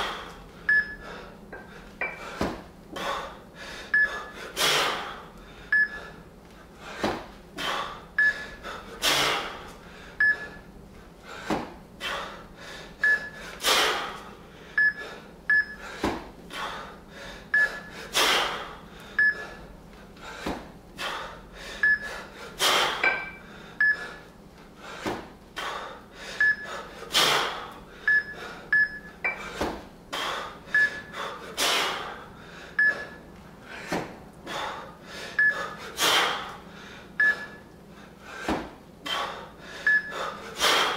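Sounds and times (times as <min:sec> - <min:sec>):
person breathing forcefully: 0:00.0 - 0:28.7, 0:29.3 - 0:37.2, 0:37.9 - 0:40.9.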